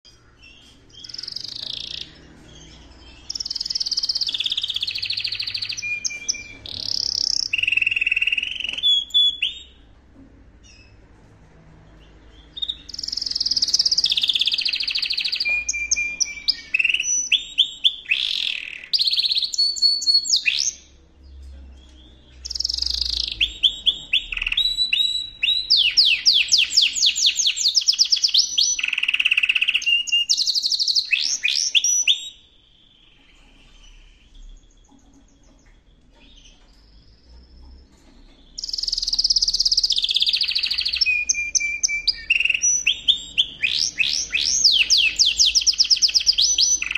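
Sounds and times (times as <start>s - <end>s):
canary singing trills: 0.0s - 10.0s, 11.9s - 46.9s.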